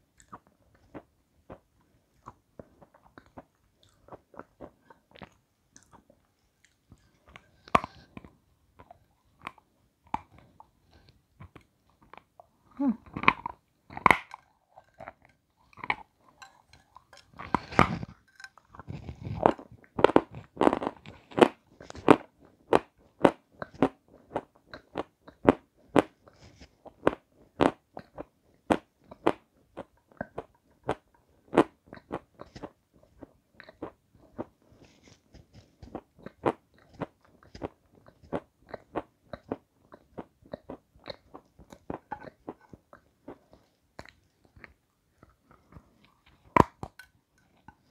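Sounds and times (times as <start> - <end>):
biting and chewing crunchy food: 0.0 - 47.9.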